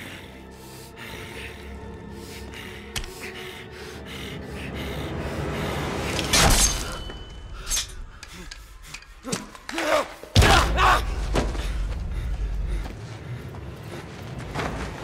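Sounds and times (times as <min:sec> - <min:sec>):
tense music: 0:00.0 - 0:15.0.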